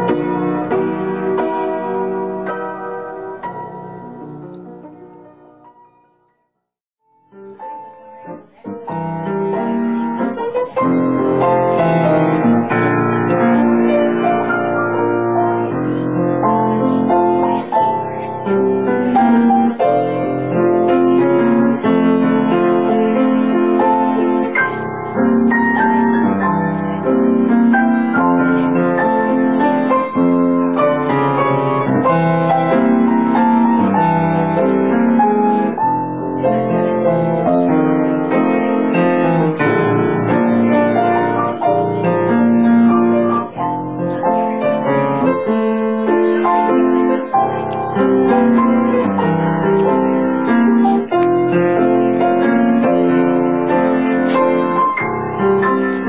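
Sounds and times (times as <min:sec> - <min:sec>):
piano playing: 0:00.0 - 0:06.4, 0:07.0 - 0:56.0.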